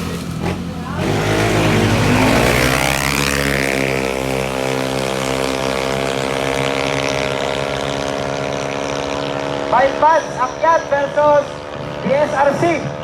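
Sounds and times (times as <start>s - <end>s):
scooter engines at full throttle: 0.0s - 13.0s.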